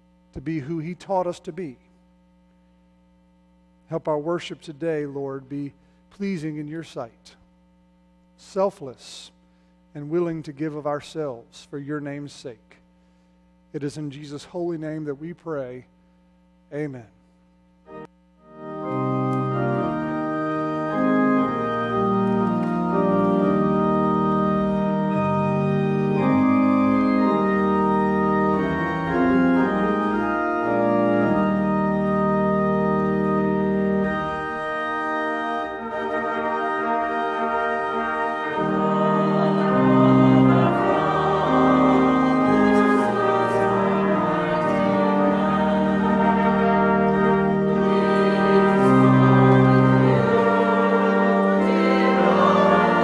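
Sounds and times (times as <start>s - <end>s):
church organ chords: 0.0s - 2.0s, 2.7s - 7.4s, 8.4s - 53.0s.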